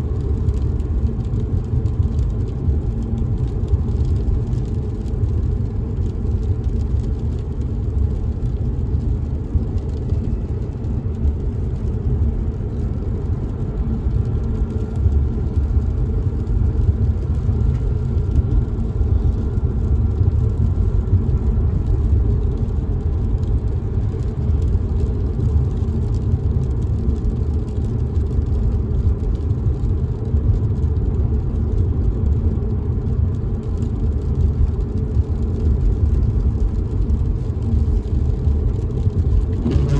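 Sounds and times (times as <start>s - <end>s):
car driving rumble from inside: 0.0s - 39.9s
raindrops ticking on windows: 0.1s - 39.9s.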